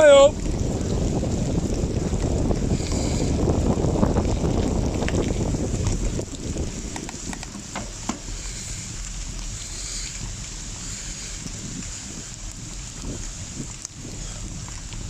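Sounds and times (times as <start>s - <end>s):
rain hiss: 0.0s - 15.0s
wind rumbling on microphone: 0.0s - 15.0s.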